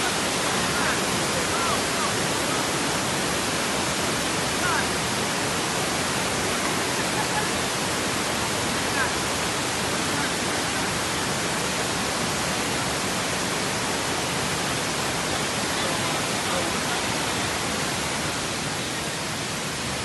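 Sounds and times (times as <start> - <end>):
white water rushing over rocks: 0.0 - 20.0.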